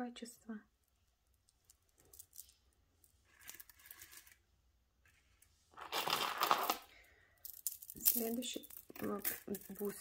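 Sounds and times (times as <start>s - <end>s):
bead necklaces rustling: 0.8s - 10.0s.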